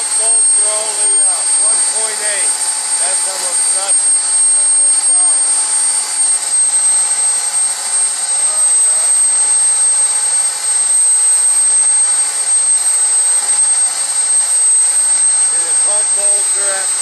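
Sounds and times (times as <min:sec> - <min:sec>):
jet turbine whining: 0:00.0 - 0:17.0.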